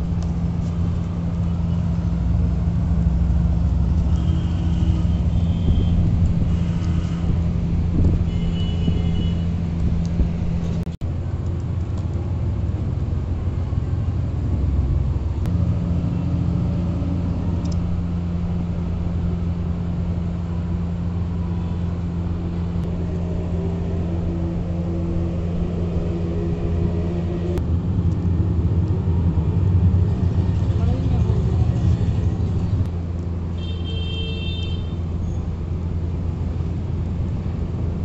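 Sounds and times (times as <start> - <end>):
low mechanical hum and rumble: 0.0 - 38.0.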